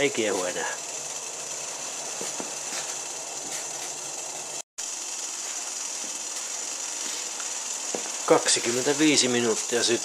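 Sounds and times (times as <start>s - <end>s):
stove flame hissing: 0.0s - 10.0s.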